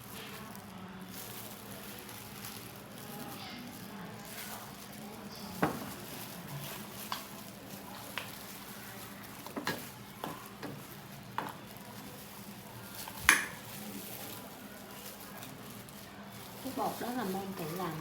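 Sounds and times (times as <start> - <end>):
steady sizzle: 0.0 - 18.0.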